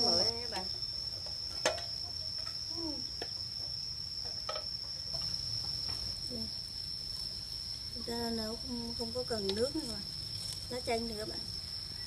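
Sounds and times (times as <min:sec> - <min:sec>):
cricket trill: 0:00.0 - 0:12.0.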